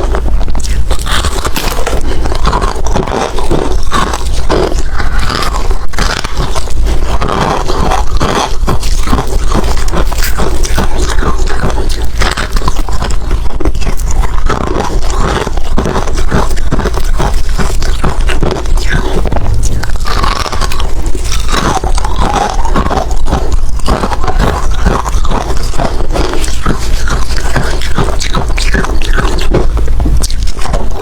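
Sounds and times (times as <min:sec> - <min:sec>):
ice crunching being chewed: 0:00.0 - 0:31.0.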